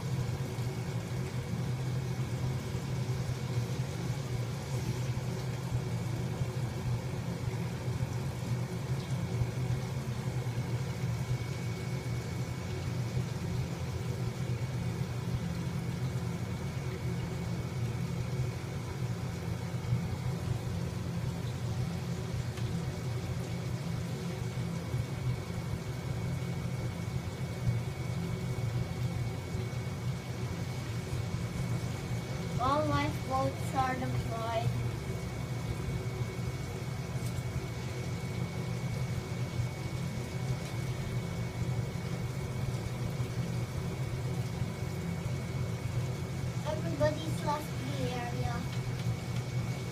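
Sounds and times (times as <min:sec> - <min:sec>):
faint hum: 0:00.0 - 0:49.9.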